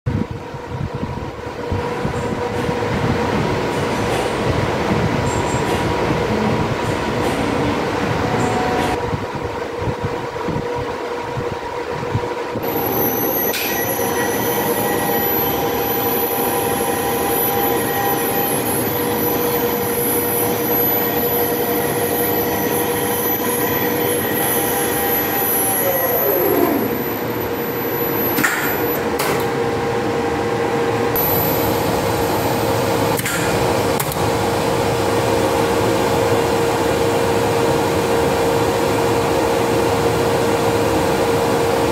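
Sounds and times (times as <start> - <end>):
elevator machine humming and whining: 0.1 - 41.9.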